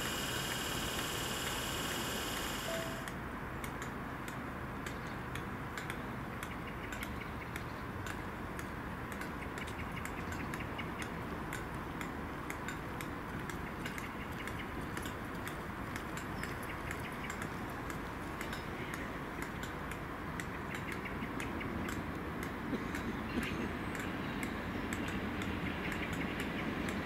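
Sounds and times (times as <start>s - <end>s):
faint light ticks and clicks: 2.7s - 27.0s.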